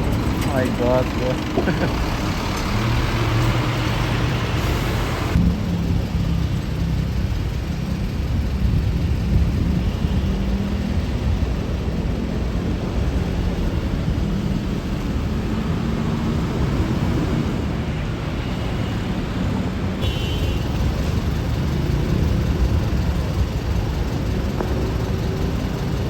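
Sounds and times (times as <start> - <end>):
diesel engine droning: 0.0 - 17.8, 20.1 - 26.0.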